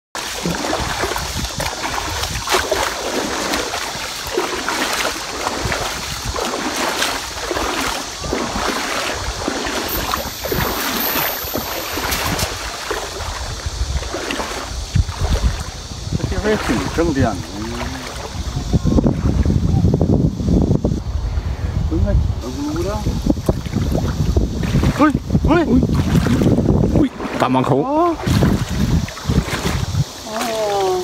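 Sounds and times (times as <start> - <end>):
water splashing from wading: 0.2 - 19.6, 22.6 - 31.0
wind rumble on microphone: 0.4 - 31.0.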